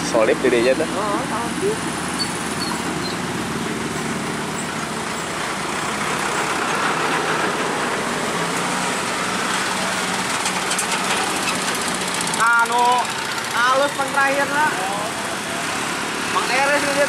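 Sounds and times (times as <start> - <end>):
car engine: 0.0 - 17.0
motorcycle engine: 0.0 - 17.0
truck engine: 0.0 - 17.0.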